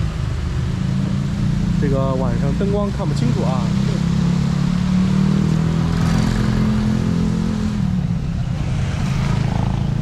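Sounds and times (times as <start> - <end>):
car passing: 0.0 - 10.0
engine hum: 0.0 - 10.0
motorcycle passing: 0.0 - 10.0
road rumble: 0.0 - 10.0.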